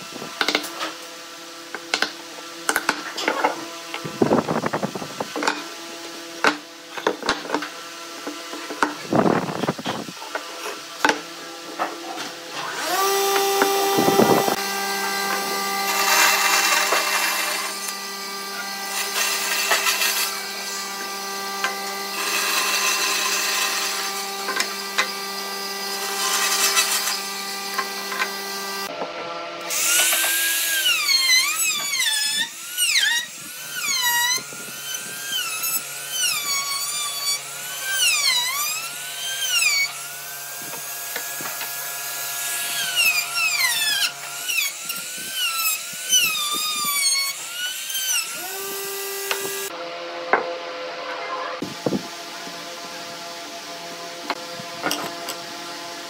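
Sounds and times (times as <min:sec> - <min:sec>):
bandsaw blade cutting wood: 0:00.0 - 0:01.1, 0:01.7 - 0:29.0, 0:29.6 - 0:50.5
bandsaw humming: 0:00.0 - 0:50.7
trim router whining: 0:00.0 - 0:56.0.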